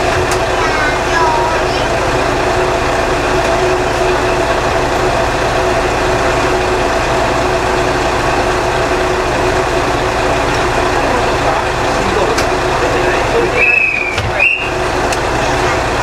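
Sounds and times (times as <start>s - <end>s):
railcar diesel engine drone: 0.0s - 16.0s.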